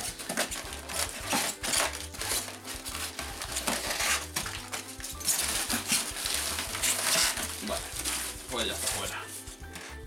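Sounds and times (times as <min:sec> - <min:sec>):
bubble wrap and paper rustling: 0:00.0 - 0:10.0.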